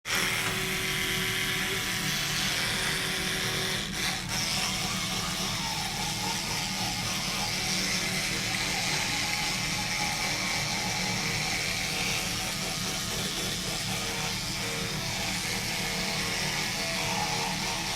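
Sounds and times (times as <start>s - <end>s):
electric toothbrush buzzing: 0.0s - 17.9s.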